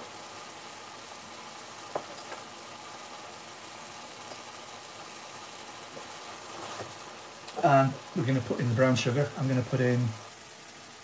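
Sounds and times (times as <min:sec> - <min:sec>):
sauce sizzling in a frying pan: 0:00.0 - 0:11.0.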